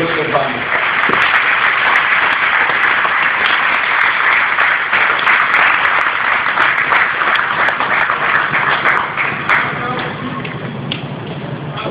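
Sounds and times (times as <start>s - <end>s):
stadium crowd applauding: 0.0s - 10.6s.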